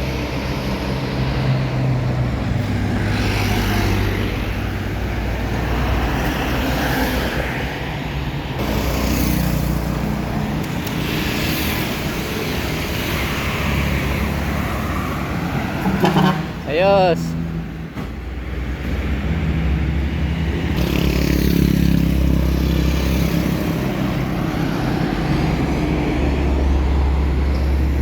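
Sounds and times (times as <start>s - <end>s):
vehicle engines running: 0.0s - 28.0s.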